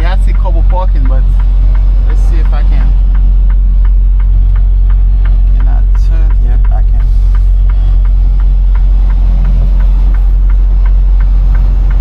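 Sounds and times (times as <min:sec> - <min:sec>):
diesel truck engine rumbling: 0:00.0 - 0:12.0
light ticking: 0:00.0 - 0:12.0.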